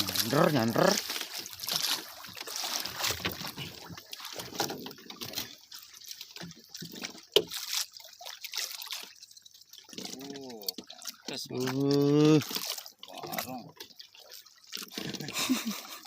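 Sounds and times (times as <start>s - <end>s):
water sloshing and trickling: 0.0s - 16.0s.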